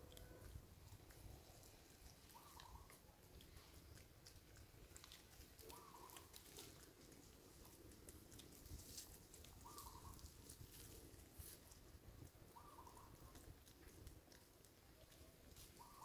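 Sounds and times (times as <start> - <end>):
light ticks and rustles: 0.0 - 16.0.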